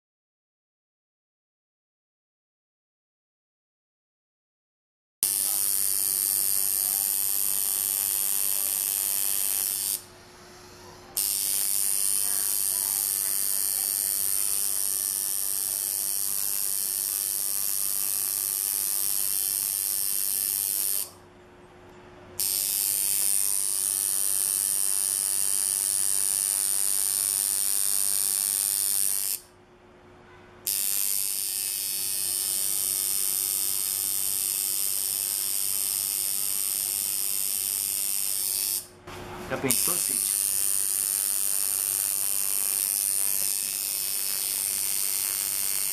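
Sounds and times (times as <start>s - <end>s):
tattoo machine buzzing: 5.2s - 10.1s, 11.2s - 21.2s, 22.4s - 29.5s, 30.6s - 45.9s.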